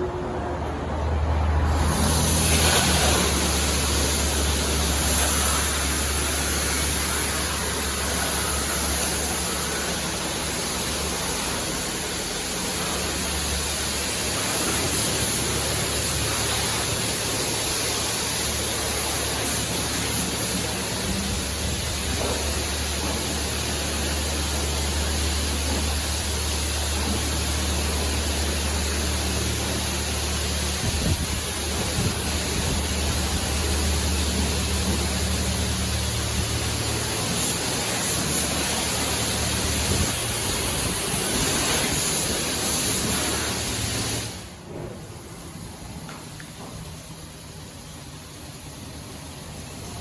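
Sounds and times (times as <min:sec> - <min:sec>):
water spray hissing: 0:01.6 - 0:44.6.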